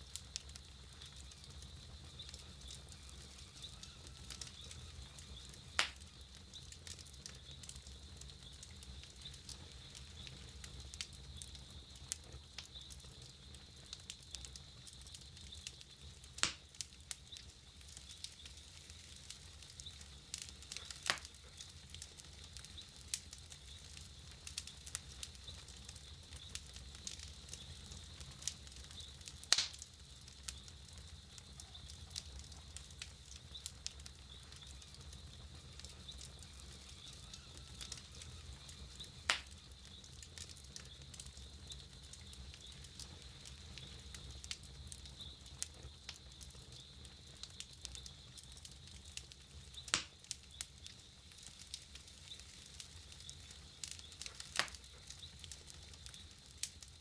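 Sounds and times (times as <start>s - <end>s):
campfire crackling: 0.0s - 57.0s
loud fire pops: 0.0s - 57.0s.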